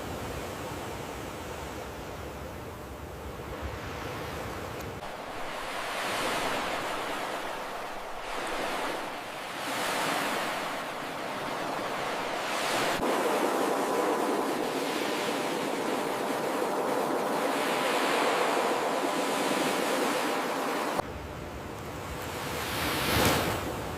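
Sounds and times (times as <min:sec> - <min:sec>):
ocean waves breaking on shore: 0:00.0 - 0:23.9.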